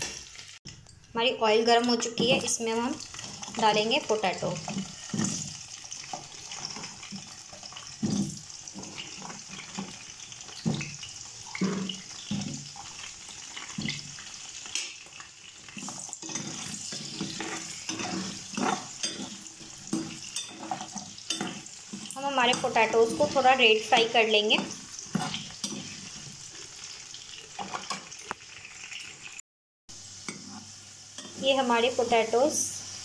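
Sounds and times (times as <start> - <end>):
potatoes sizzling in hot oil: 0.0 - 33.0.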